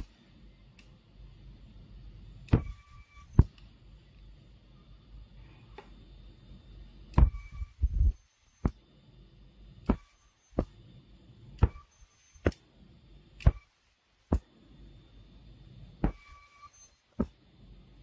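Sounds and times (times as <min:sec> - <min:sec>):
thin high-pitched whine: 0:00.0 - 0:05.0, 0:06.4 - 0:18.0.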